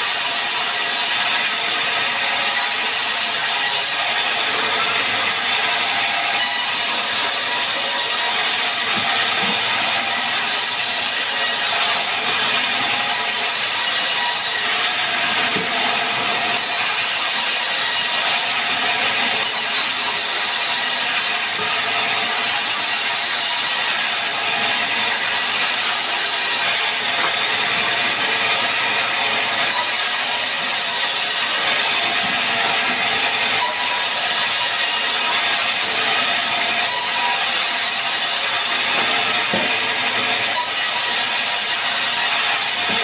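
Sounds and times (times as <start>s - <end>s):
band saw cutting wood: 0.0s - 43.0s.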